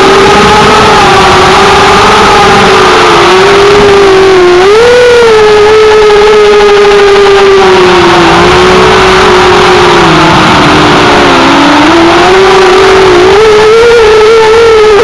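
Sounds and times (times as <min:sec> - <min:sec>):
rushing air: 0:00.0 - 0:14.9
drone motors whining: 0:00.0 - 0:15.0.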